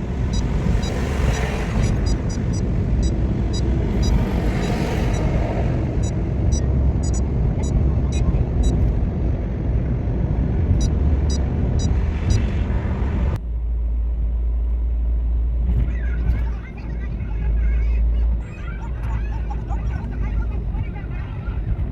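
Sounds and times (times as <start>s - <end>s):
car road and engine rumble: 0.0s - 21.9s
low hum: 0.0s - 21.9s.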